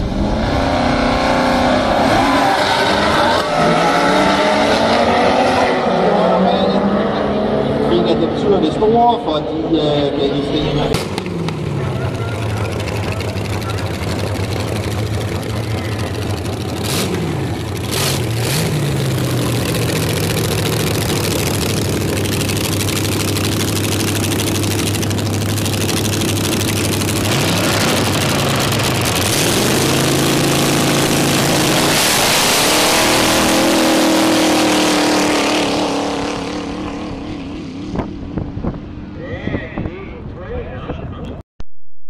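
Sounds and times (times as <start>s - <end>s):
dragster engine idling and revving: 0.0s - 39.2s.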